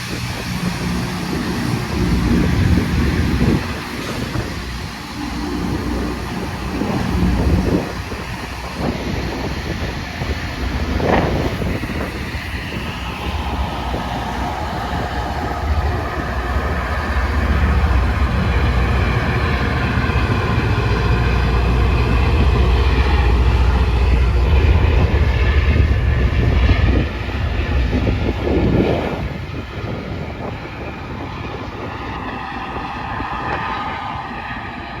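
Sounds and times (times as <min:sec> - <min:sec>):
heavy train engines rumbling: 0:00.0 - 0:35.0.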